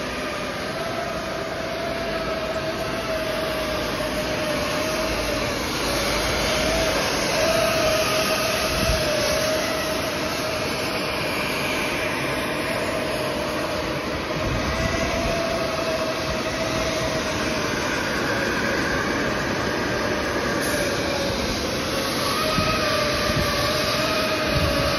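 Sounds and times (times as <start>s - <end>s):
hot air blower rushing: 0.0s - 24.9s.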